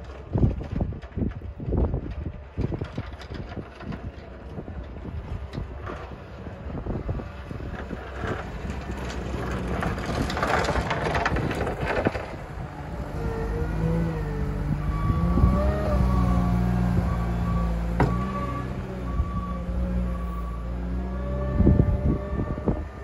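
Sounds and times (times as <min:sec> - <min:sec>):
diesel engine: 0:00.0 - 0:23.0
wind buffeting microphone: 0:00.0 - 0:23.0
snow plow scraping snow: 0:02.5 - 0:23.0.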